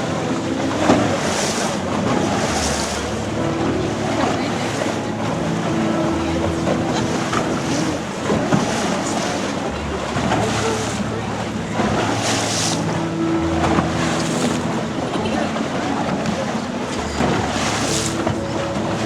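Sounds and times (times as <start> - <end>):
boat engine hum: 0.0 - 19.0
water rushing: 0.0 - 19.0.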